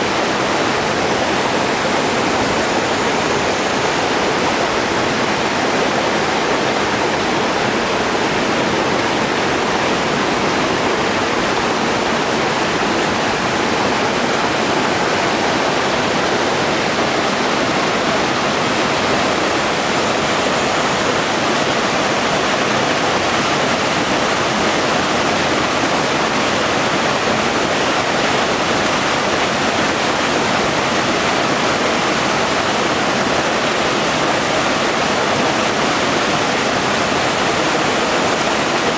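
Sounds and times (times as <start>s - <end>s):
stream and waterfall splashing: 0.0s - 38.9s.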